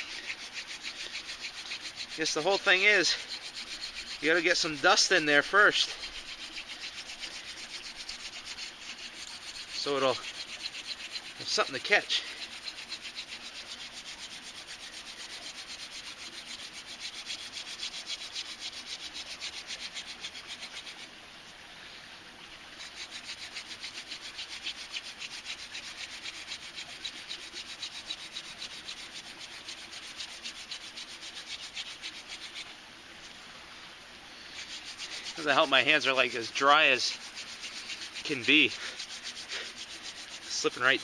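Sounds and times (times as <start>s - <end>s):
wooden spindle scraping into board: 0.0s - 21.0s, 22.8s - 32.7s, 34.5s - 41.0s.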